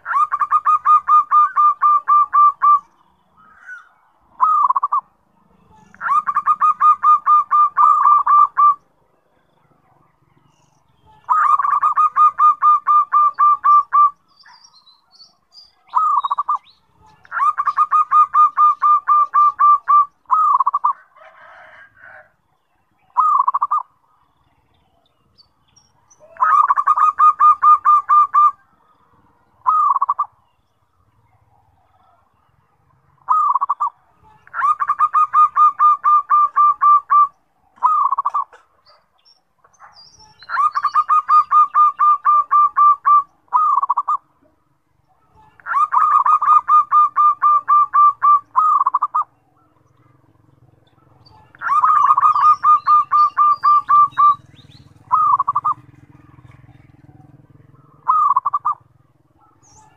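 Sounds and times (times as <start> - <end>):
dove cooing: 0.0 - 10.5, 11.1 - 22.3, 23.0 - 24.8, 26.1 - 44.6, 45.3 - 59.9.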